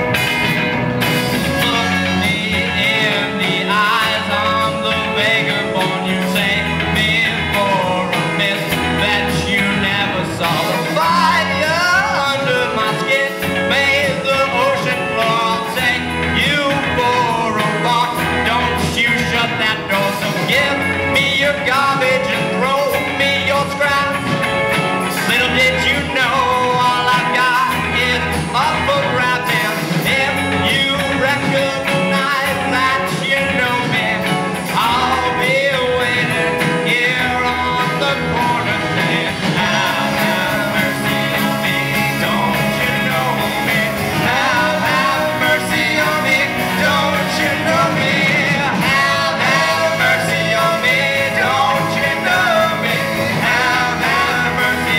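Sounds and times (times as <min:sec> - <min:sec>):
rock band playing live: 0:00.0 - 0:54.9
person singing: 0:01.1 - 0:54.9.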